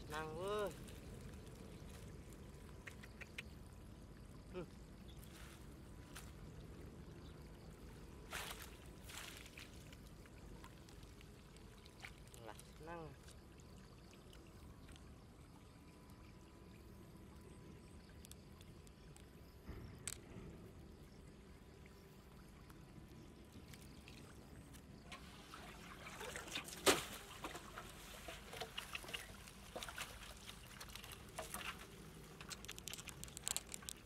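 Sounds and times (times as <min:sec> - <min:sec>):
water trickling and splashing: 0:00.0 - 0:20.2, 0:20.8 - 0:34.0.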